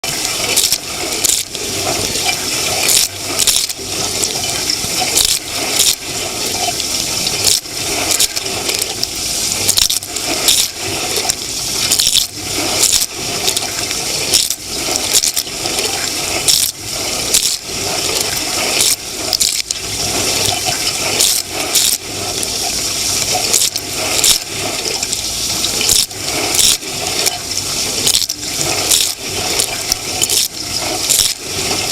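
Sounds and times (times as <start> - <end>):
water spraying inside dishwasher: 0.0 - 31.9.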